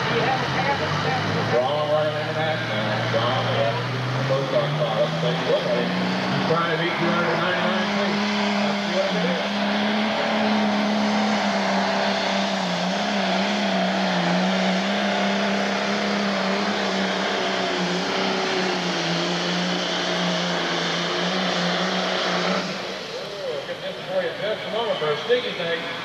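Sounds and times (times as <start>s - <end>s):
diesel engine at full throttle: 0.0s - 26.0s.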